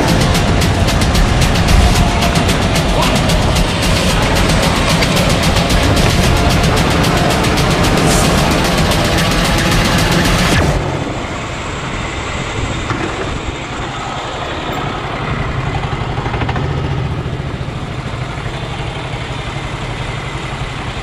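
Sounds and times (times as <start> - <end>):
go-kart engine at low revs: 0.0 - 21.0.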